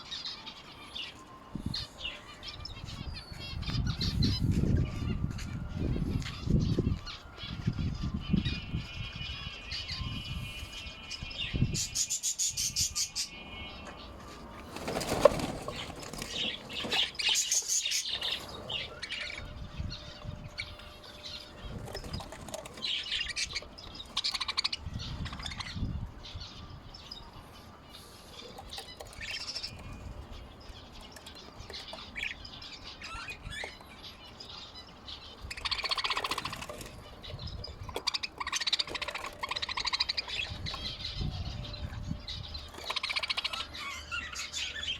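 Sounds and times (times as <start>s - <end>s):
birds chirping and calling: 0.0s - 44.9s.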